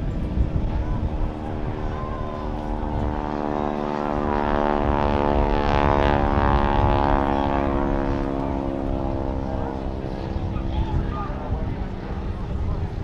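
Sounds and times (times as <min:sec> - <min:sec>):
biplane engine droning: 0:00.0 - 0:13.0
low wind rumble: 0:00.0 - 0:13.0.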